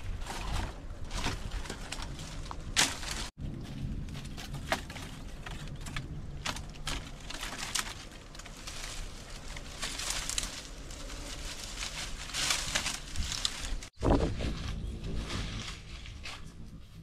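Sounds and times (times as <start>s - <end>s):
twigs cracking: 0.0s - 14.8s
branches rustling and crackling: 0.0s - 17.0s.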